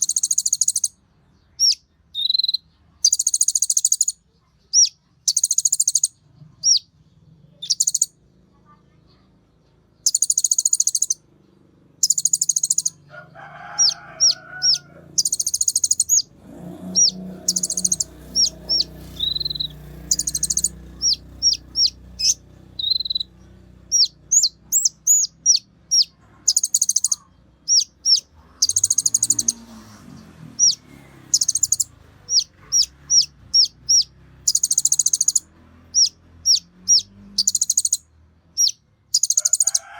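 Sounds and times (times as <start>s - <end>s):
songbird trilling: 0.0s - 1.0s, 1.6s - 6.9s, 7.6s - 8.2s, 10.0s - 11.2s, 12.0s - 13.1s, 13.7s - 29.7s, 30.6s - 38.0s, 38.6s - 39.9s
sharp bird chirps: 0.0s - 6.9s, 7.5s - 8.2s, 9.9s - 11.3s, 12.0s - 39.9s.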